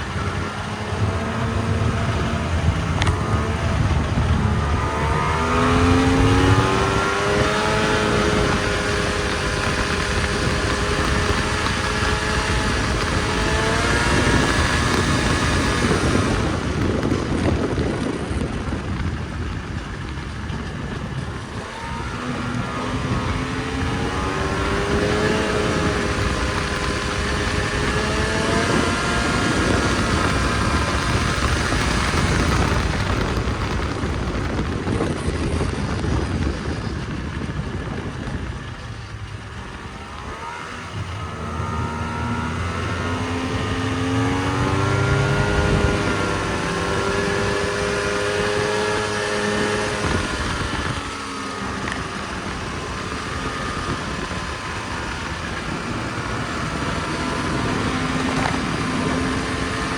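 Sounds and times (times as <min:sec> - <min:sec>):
snowmobile engine revving: 0:00.0 - 0:59.9
wind and track noise: 0:00.0 - 0:59.9.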